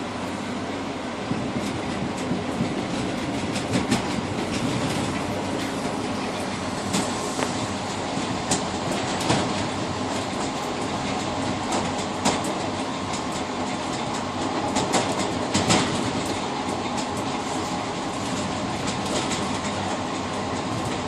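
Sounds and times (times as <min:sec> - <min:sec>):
train wheels rumbling on rails: 0:00.0 - 0:21.0
clacks over rail joints: 0:01.3 - 0:21.0.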